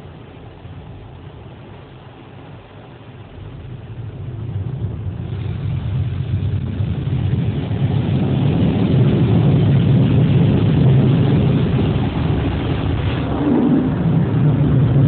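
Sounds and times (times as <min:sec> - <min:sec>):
car wash rumbling: 0:00.0 - 0:15.0.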